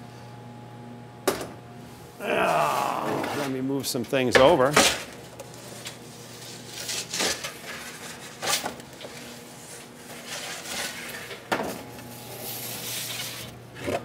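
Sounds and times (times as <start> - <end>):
low oven hum: 0.0 - 14.0.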